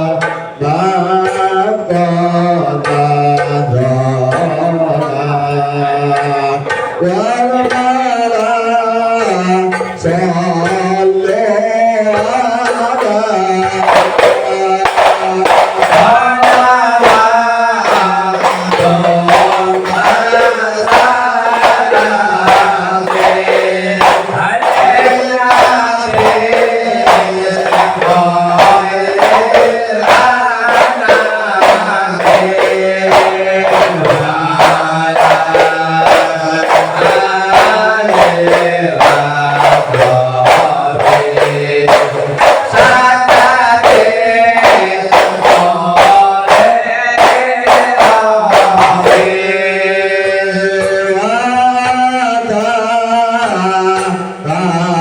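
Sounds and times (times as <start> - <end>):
man singing devotional song: 0.0 - 55.0
steady drum beat: 0.0 - 55.0.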